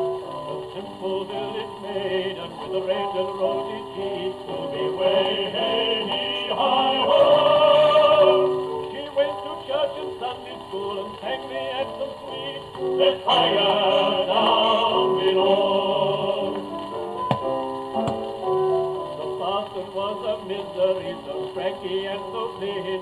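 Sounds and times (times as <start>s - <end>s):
gramophone playing music with singing: 0.0s - 23.0s.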